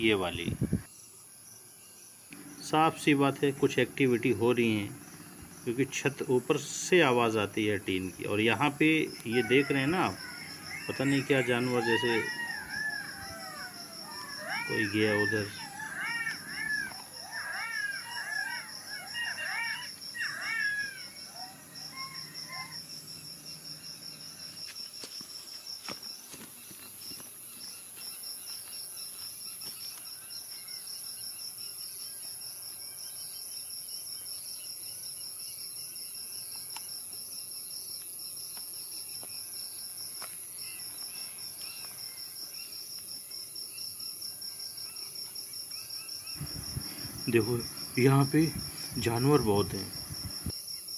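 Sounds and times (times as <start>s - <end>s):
crickets chirping: 0.0s - 50.9s
high insect hiss: 0.0s - 50.9s.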